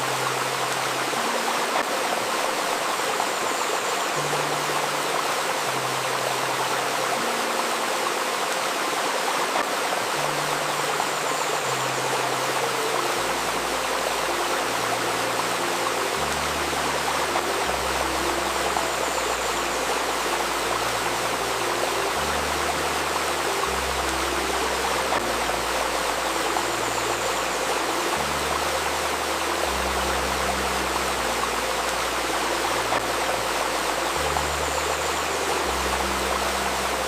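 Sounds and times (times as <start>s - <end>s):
river stream babbling: 0.0s - 37.0s
slow ambient music: 0.0s - 37.0s.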